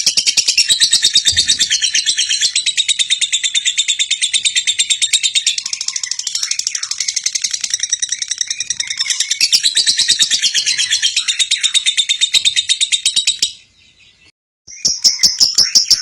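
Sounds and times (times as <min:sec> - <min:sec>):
lovebird shrill chattering song: 0:00.0 - 0:16.0.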